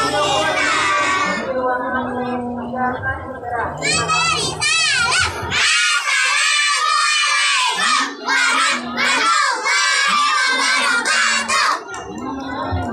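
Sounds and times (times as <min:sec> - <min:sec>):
children's choir singing loudly: 0:00.0 - 0:01.8, 0:03.8 - 0:12.9.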